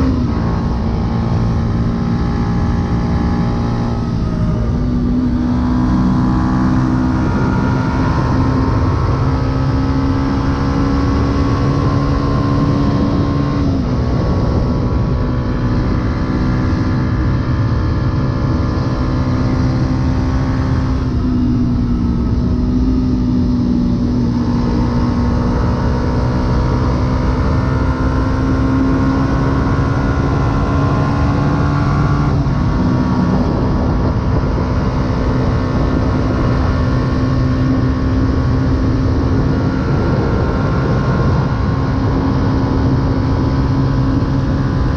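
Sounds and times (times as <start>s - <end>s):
motorcycle engine cruising: 0.0s - 44.9s
wind rumble: 0.0s - 44.9s.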